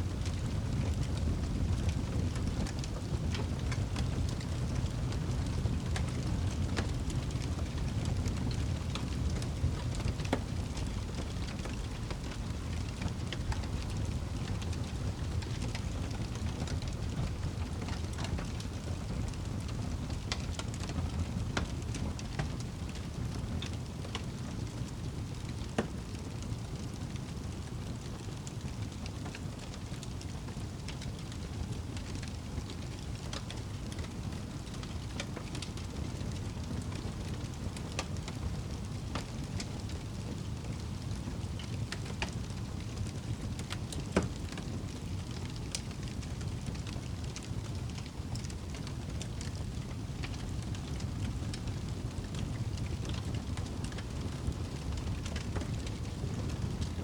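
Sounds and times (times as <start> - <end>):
burning wood crackling and popping: 0.0 - 57.0
low rumble of flames: 0.0 - 57.0.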